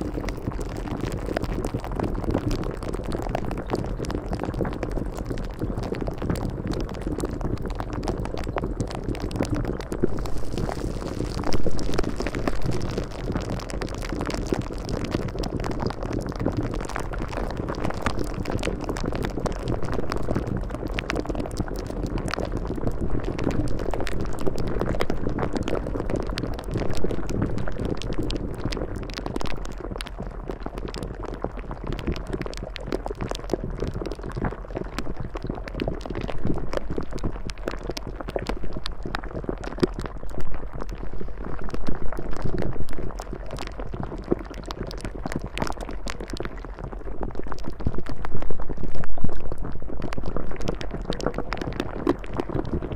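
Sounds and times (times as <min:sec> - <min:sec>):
bubbling churning water: 0:00.0 - 0:52.9.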